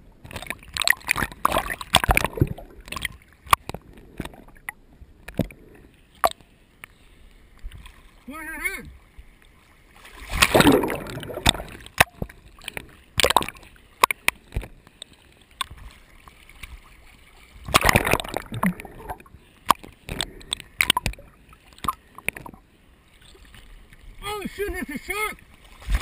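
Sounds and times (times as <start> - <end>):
water gurgling: 0.0 - 6.5, 7.7 - 26.0
water sloshing and splashing: 0.1 - 6.6, 7.4 - 26.0.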